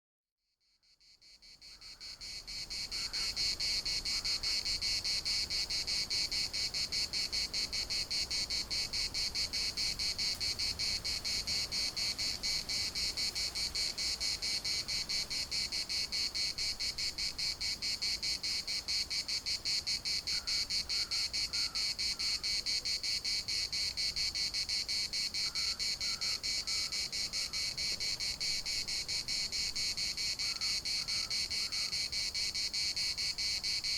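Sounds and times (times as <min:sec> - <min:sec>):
cicadas buzzing in chorus: 0:00.8 - 0:33.9.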